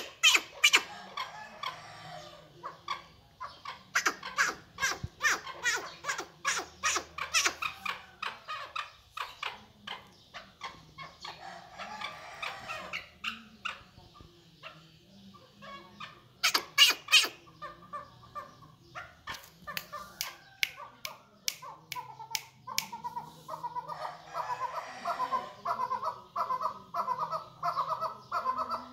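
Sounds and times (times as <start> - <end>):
partridge calling: 2.6 - 28.9.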